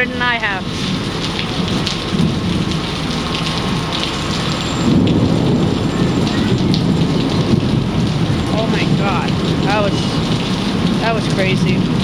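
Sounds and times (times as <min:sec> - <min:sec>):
heavy rain pouring: 0:00.0 - 0:12.0
low thunder rumble: 0:00.0 - 0:12.0.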